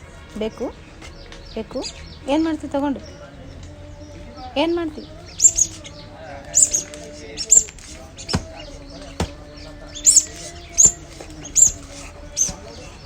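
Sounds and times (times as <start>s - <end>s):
pet bird chirping: 0.3s - 13.0s.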